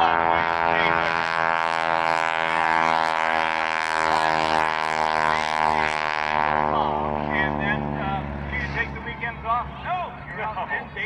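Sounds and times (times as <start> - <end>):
biplane radial engine droning: 0.0 - 11.0.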